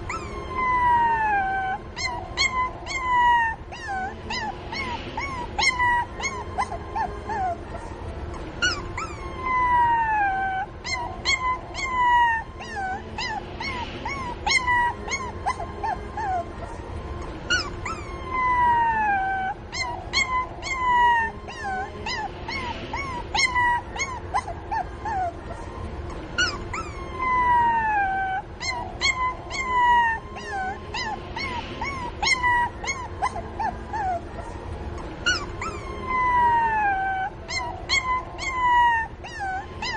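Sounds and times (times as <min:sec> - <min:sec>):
puppy whimpering and yipping: 0:00.0 - 0:16.6, 0:17.2 - 0:39.9
puppy whining: 0:00.0 - 0:39.9.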